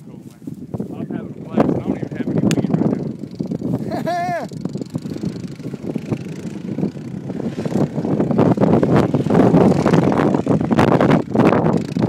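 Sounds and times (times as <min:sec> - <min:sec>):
vehicle engine running: 0:01.0 - 0:12.0.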